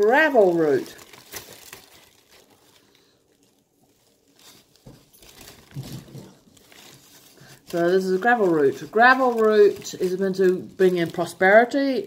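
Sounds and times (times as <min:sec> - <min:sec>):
paper packing filler rustling: 0:00.0 - 0:12.0.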